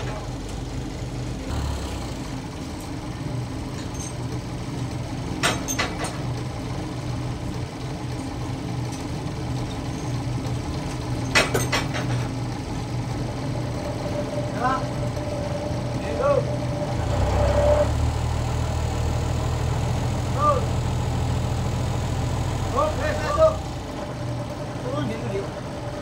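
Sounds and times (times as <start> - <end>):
sawmill machinery humming: 0.0 - 26.0.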